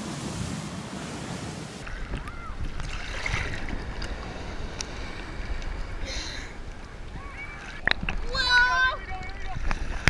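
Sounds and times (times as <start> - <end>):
surf and wind hiss: 0.0 - 8.4
low rumble of waves: 0.0 - 10.0
water sloshing and lapping: 0.2 - 10.0.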